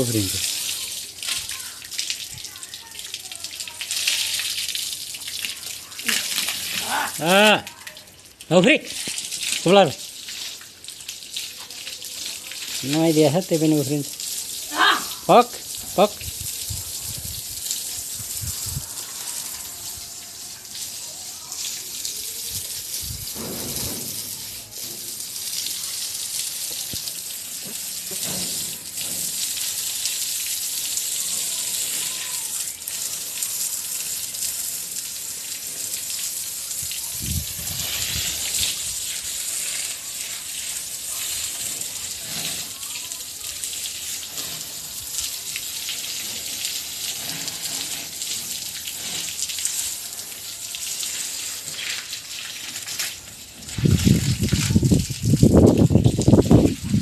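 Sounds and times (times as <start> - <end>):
water running and splashing: 0.0 - 57.0.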